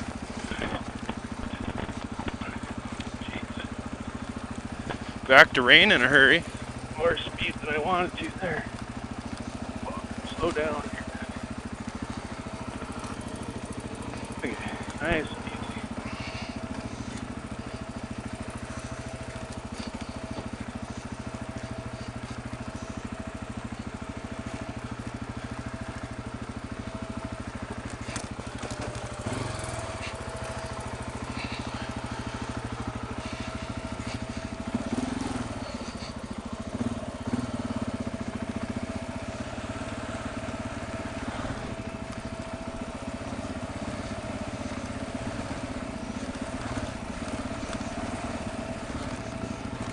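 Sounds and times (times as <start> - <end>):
motorcycle engine running at low revs: 0.0 - 49.9.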